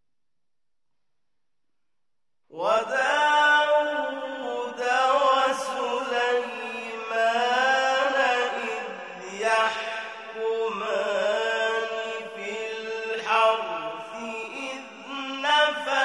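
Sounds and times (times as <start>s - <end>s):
man chanting melodically: 2.6s - 16.0s.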